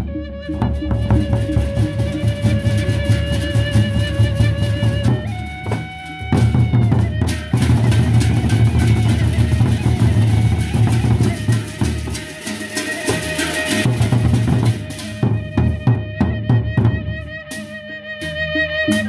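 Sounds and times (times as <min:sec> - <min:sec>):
flute melody: 0:00.0 - 0:19.0
barrel drums beaten with sticks: 0:00.6 - 0:17.2.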